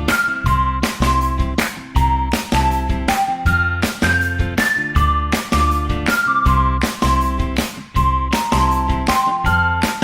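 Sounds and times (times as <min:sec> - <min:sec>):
upbeat music with steady beat: 0:00.0 - 0:10.0.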